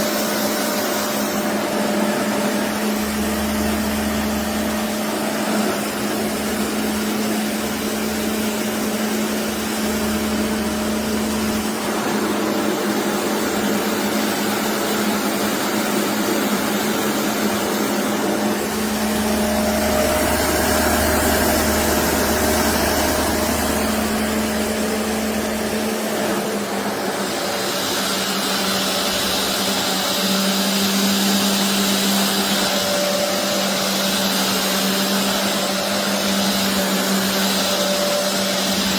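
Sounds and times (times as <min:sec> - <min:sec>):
carpet cleaner motor droning: 0:00.0 - 0:38.9.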